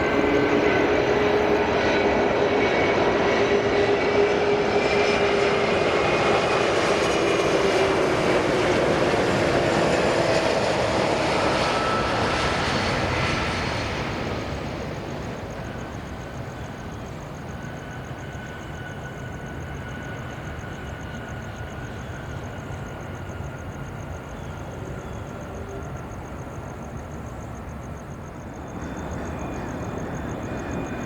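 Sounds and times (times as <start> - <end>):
jet airliner roar passing: 0.0 - 26.9, 27.8 - 31.0.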